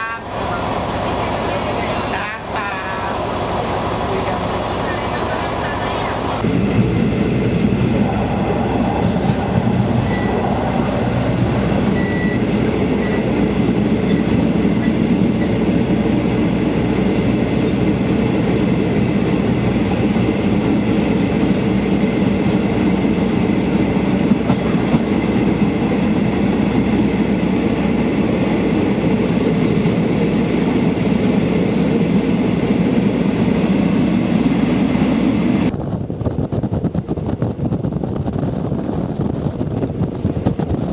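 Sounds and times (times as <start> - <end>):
train wheels on rails: 0.0 - 40.9.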